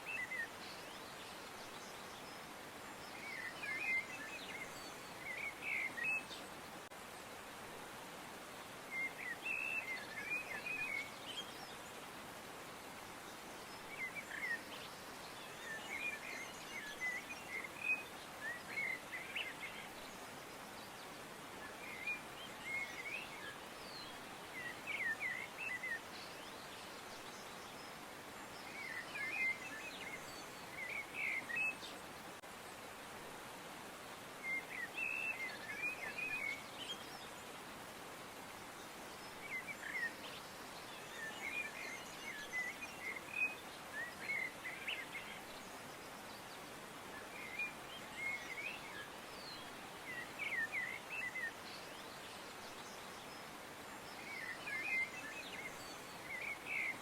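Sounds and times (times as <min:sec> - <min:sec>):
songbirds twittering: 0:00.0 - 0:07.6, 0:08.4 - 0:57.0
steady background hiss: 0:00.0 - 0:57.0.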